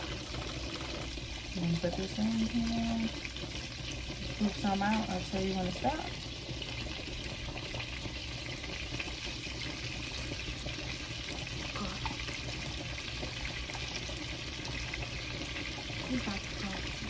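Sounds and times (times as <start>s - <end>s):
butter and garlic sizzling in pan: 0.0s - 17.0s.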